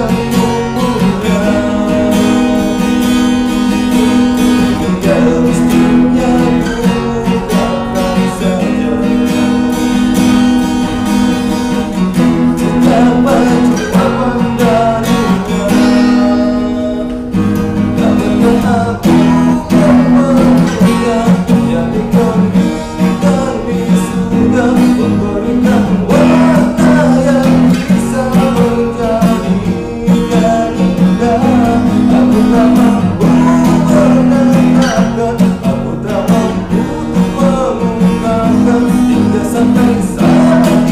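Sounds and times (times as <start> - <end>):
man singing: 0.0 - 40.9
strummed acoustic guitar: 0.0 - 40.9.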